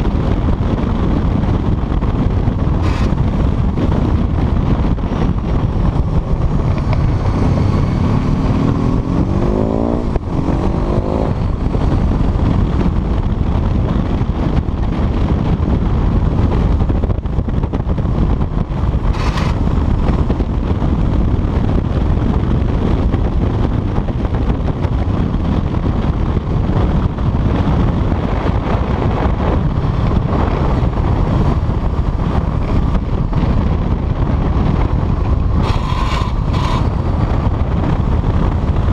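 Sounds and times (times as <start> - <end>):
motorcycle engine accelerating: 0.0 - 38.9
wind buffeting microphone: 0.0 - 38.9.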